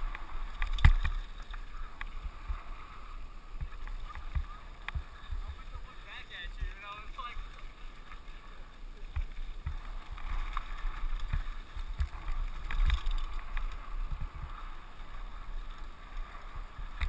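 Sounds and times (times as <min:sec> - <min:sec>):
bike tyres on dirt: 0:00.0 - 0:17.0.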